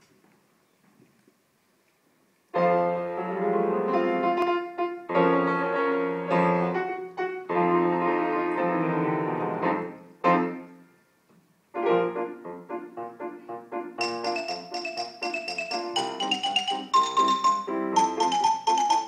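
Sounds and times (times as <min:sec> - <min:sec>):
piano playing: 0:02.6 - 0:10.8, 0:11.8 - 0:19.0.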